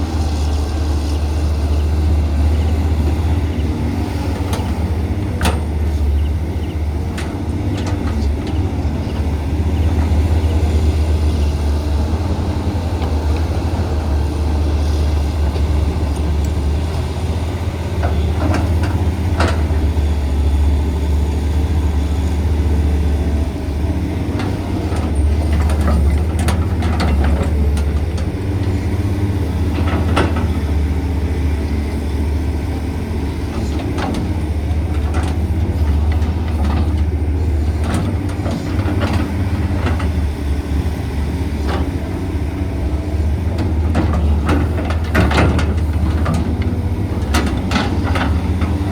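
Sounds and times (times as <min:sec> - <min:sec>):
excavator diesel engine droning: 0:00.0 - 0:48.9.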